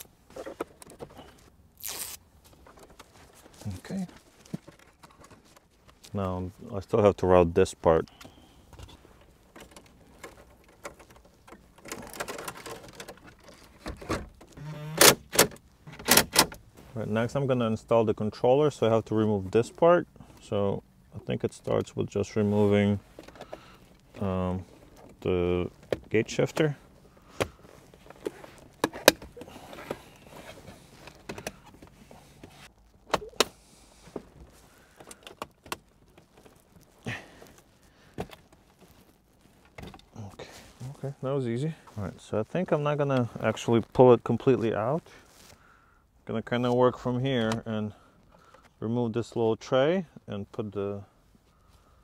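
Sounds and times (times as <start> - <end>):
wiring and plastic parts rustling: 0.0 - 49.5.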